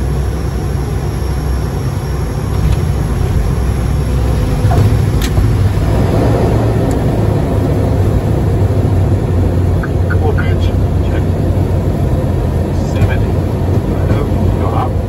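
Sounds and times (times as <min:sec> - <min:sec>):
runway rumble: 0:00.0 - 0:15.0
turboprop engines droning: 0:00.0 - 0:15.0.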